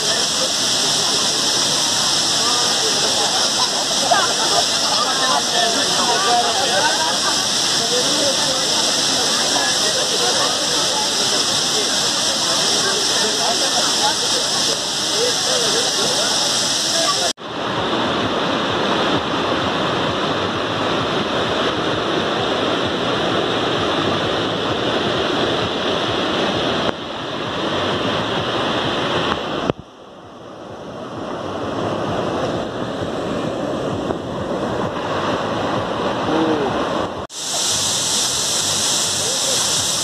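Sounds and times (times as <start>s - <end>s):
stream rushing over stones: 0.0s - 40.0s.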